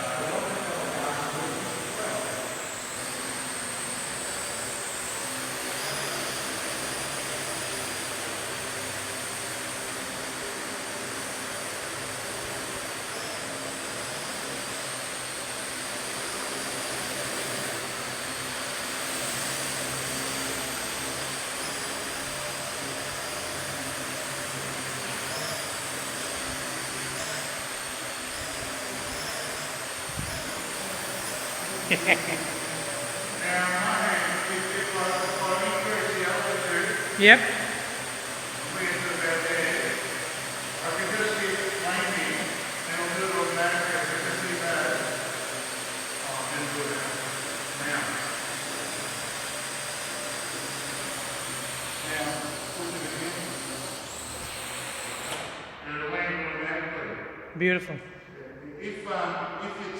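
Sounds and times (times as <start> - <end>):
quadcopter propellers whining: 0.0 - 59.9.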